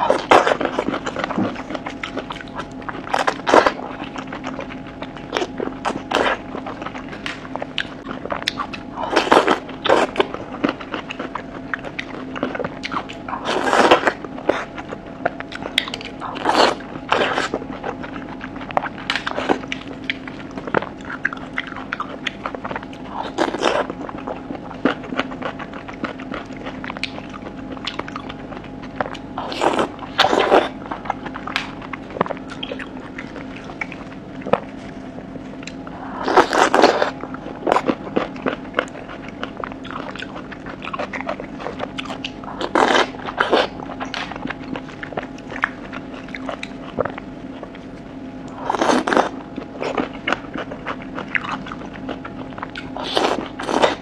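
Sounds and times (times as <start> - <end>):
steady low hum: 0.0 - 54.0
wet bites and chewing: 0.0 - 54.0.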